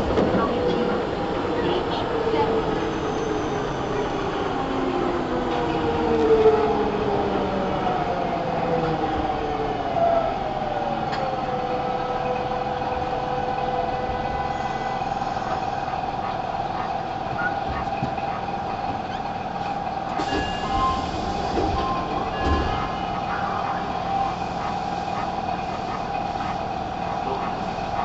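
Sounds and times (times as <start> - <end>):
subway train rumble and hiss: 0.0 - 28.0.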